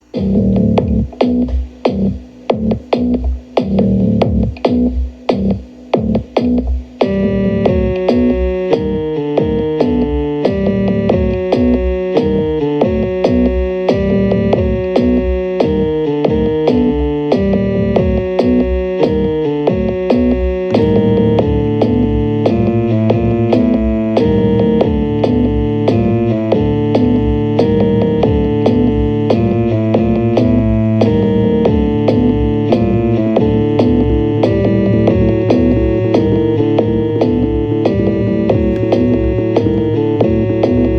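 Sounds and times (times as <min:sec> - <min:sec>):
bass part: 0:00.0 - 0:40.9
drum-machine beat: 0:00.0 - 0:40.9
synthesizer and keyboard chords: 0:00.0 - 0:40.9.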